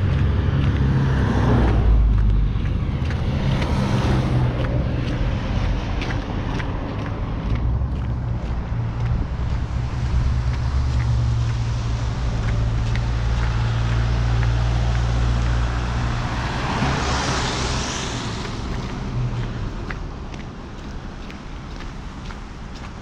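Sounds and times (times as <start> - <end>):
car passing close by: 0.0 - 20.4
faint footsteps: 0.0 - 23.0
low engine drone: 0.0 - 23.0.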